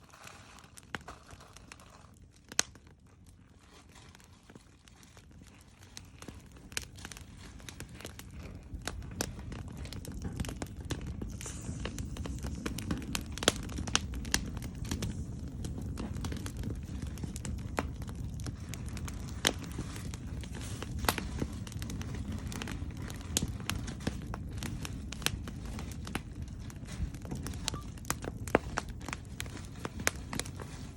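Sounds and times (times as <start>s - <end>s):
campfire crackling and popping: 0.0s - 30.9s
low rushing fire noise: 0.0s - 30.9s.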